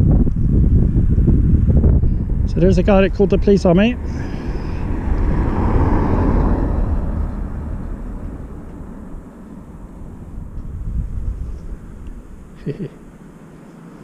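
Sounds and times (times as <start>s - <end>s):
car driving past: 2.2s - 14.0s.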